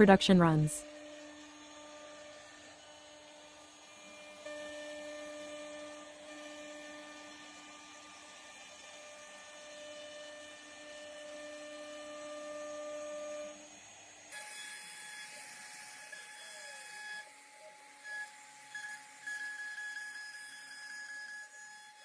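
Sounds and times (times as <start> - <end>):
machine motor whine and hum: 0.0 - 22.0.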